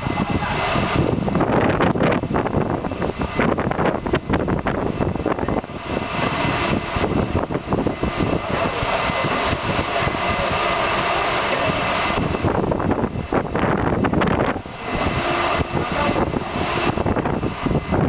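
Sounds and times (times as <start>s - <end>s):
high whining tones: 0.0s - 18.0s
industrial machinery drone: 0.0s - 18.0s.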